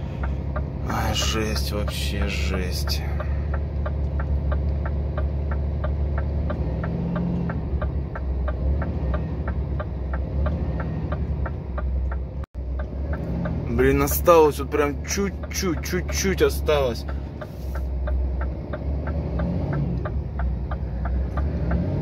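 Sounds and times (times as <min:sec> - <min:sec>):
diesel truck engine droning: 0:00.0 - 0:22.0
light regular ticking: 0:00.0 - 0:22.0.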